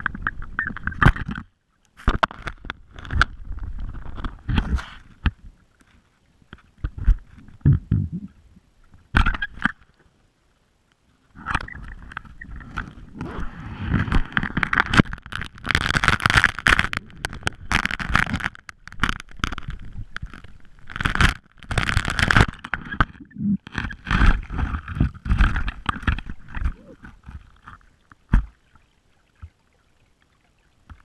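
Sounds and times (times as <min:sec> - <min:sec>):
muffled water rushing: 0:03.2 - 0:31.0.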